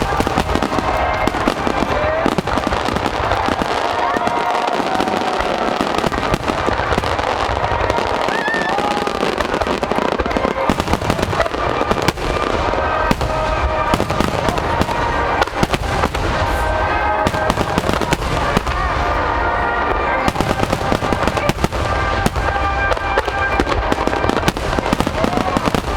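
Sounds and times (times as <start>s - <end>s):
fireworks bursting and crackling: 0.0s - 25.9s.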